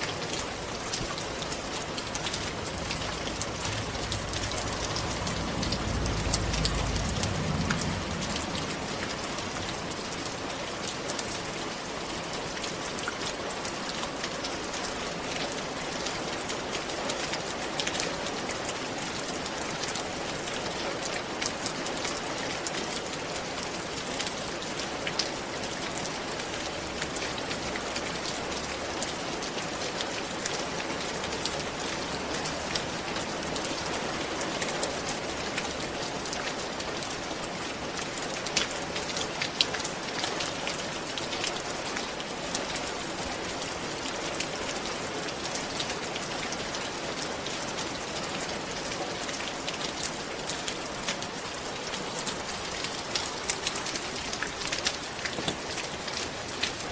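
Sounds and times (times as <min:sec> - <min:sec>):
rain on a roof: 0:00.0 - 0:56.9.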